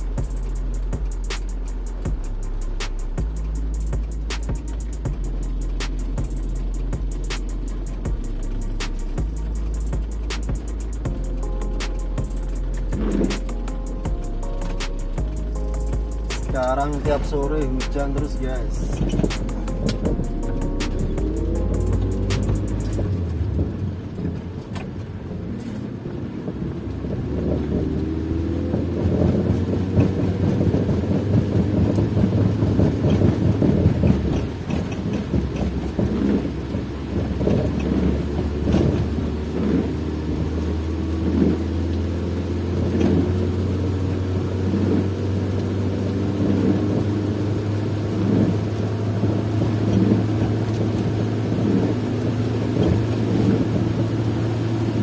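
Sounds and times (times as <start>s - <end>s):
car engine revving: 0.0s - 55.0s
tyres droning on wet road: 0.0s - 55.0s.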